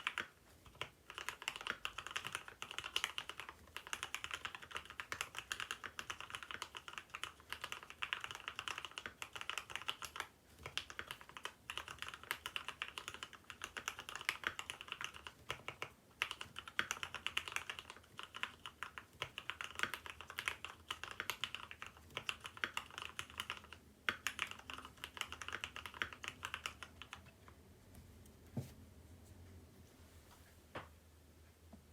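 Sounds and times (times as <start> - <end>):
mechanical keyboard typing: 0.0 - 27.3.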